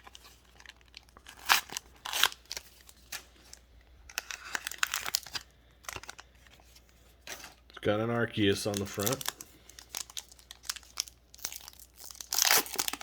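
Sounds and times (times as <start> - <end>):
foil wrapper crinkling: 0.0 - 7.5, 8.3 - 13.0.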